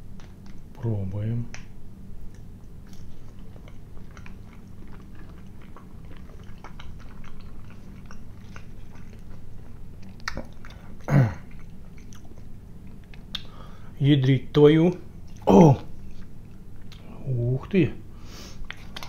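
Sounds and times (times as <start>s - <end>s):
wet chewing: 1.5s - 17.2s, 18.6s - 19.0s.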